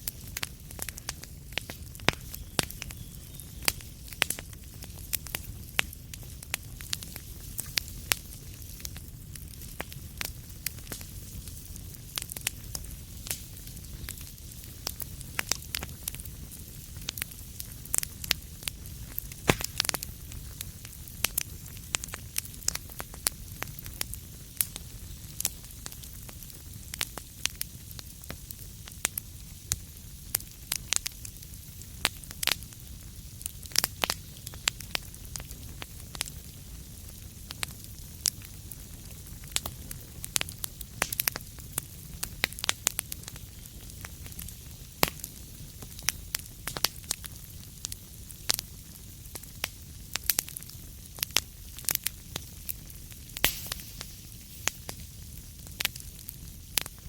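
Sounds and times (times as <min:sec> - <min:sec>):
low fire rumble and hiss: 0:00.0 - 0:57.0
wood fire crackling: 0:00.0 - 0:57.0.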